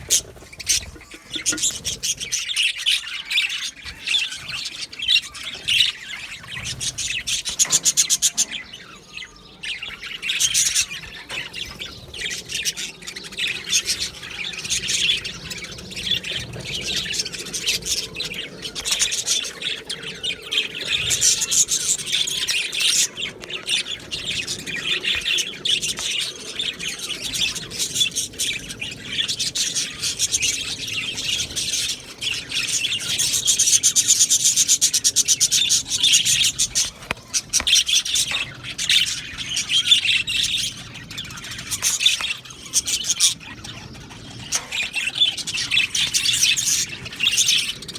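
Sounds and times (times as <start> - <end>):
budgerigars chattering and chirping: 0.0 - 47.9.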